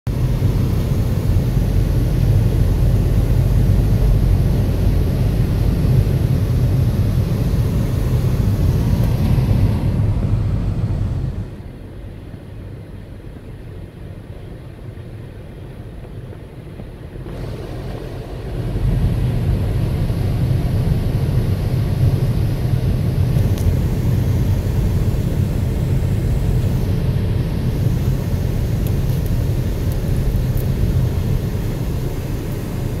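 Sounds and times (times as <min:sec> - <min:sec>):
engine and tyres rumbling on wet road: 0:00.0 - 0:33.0.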